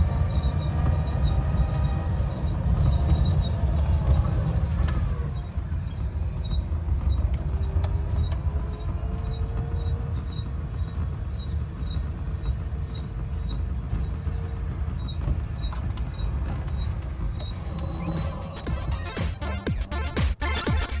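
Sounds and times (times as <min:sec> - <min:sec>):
electric trike rumble: 0:00.0 - 0:21.0
motor whine: 0:00.0 - 0:21.0.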